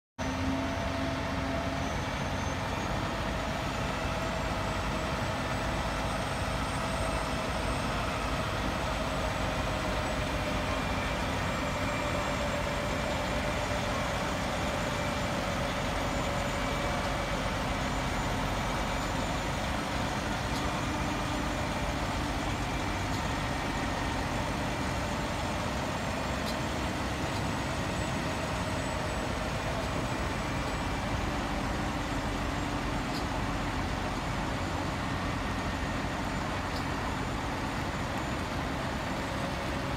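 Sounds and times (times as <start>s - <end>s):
diesel truck engine running: 0.2s - 39.9s.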